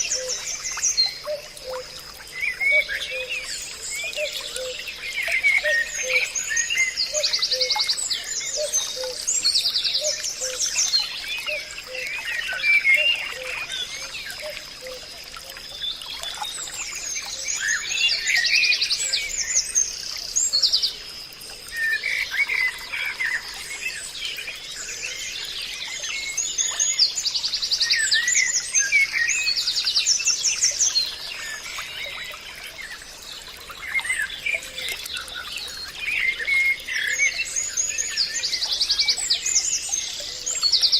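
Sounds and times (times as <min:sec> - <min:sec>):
wild birds singing and calling: 0:00.0 - 0:40.9.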